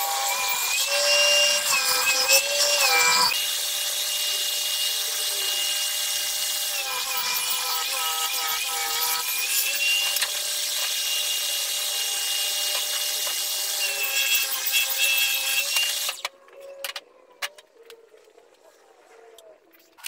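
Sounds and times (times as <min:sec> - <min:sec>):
table saw cutting wood: 0:00.0 - 0:16.3.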